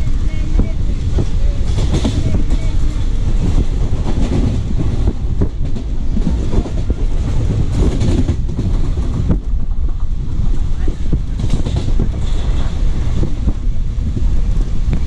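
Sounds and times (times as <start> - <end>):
train rumbling: 0.0 - 15.0
wheels clattering over rail joints: 0.8 - 15.0.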